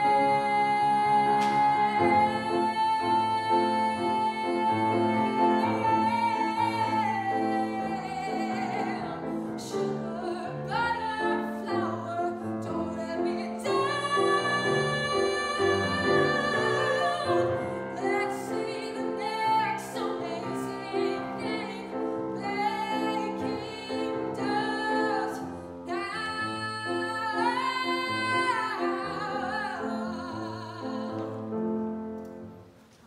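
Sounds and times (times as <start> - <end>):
woman singing a ballad: 0.0 - 31.9
grand piano accompaniment: 0.0 - 33.0.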